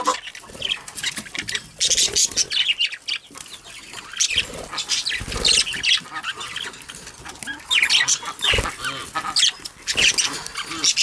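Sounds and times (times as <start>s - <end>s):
budgies chirping and warbling: 0.0s - 11.0s.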